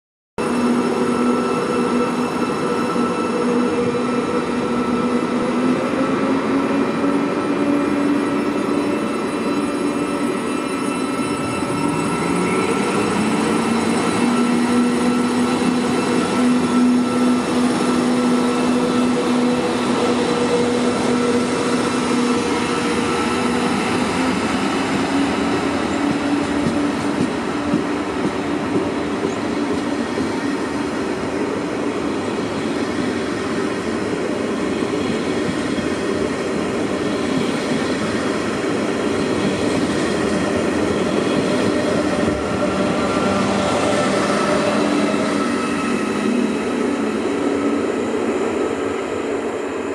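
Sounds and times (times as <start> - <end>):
wheels rolling on rail: 0.5 - 49.5.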